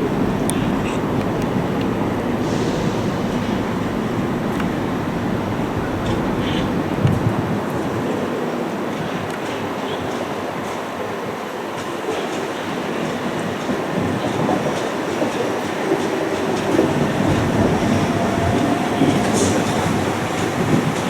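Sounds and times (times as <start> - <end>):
train wheel-on-rail rumble: 0.0 - 21.0.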